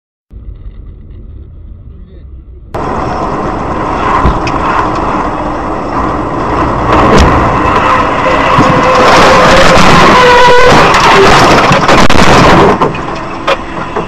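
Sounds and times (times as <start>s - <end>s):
car road and engine noise: 0.3s - 14.0s.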